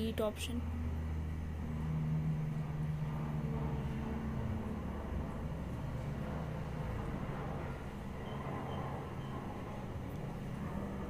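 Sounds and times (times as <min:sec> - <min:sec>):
low background rumble: 0:00.0 - 0:11.0
low hum: 0:00.0 - 0:11.0.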